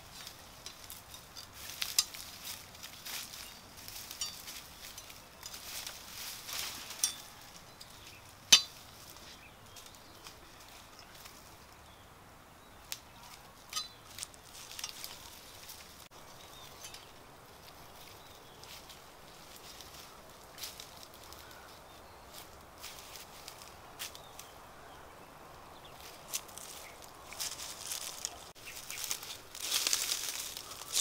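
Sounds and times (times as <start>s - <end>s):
leaves and twigs rustling: 0.0s - 31.0s.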